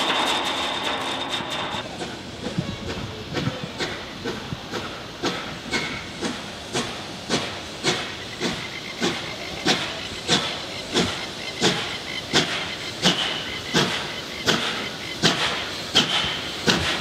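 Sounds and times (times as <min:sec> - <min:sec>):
steam hissing: 0:00.0 - 0:17.0
steam locomotive chuffing: 0:00.0 - 0:17.0.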